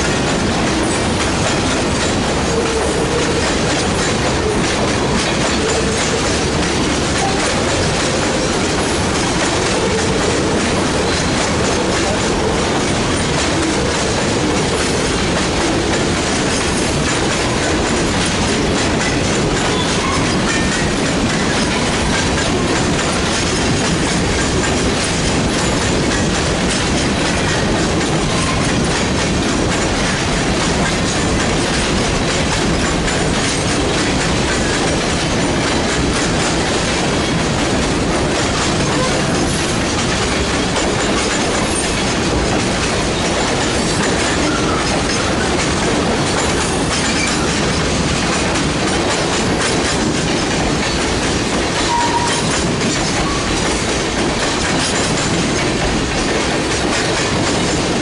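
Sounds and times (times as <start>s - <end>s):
freight train rolling past: 0.0s - 58.0s
train wheels clacking on rail joints: 0.0s - 58.0s.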